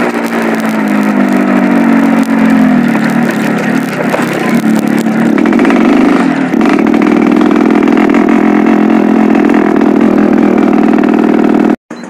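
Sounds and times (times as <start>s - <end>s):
two-stroke engine idling: 0.0s - 12.0s.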